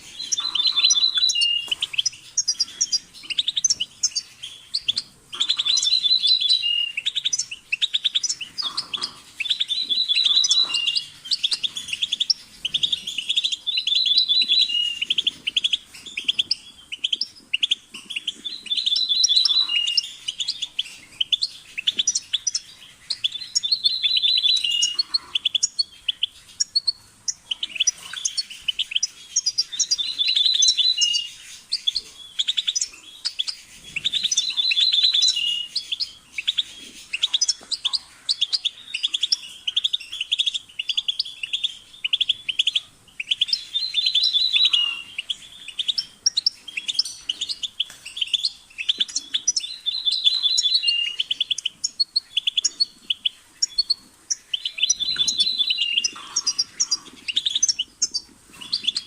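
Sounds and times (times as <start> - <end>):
goldfinch twittering: 0.0 - 59.0.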